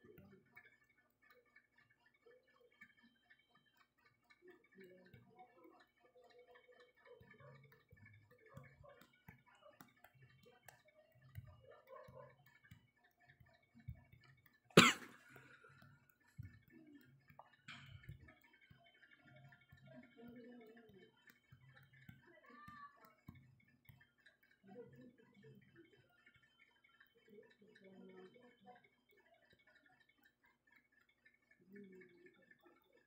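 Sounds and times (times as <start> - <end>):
faint ticks and knocks: 0.0 - 33.0.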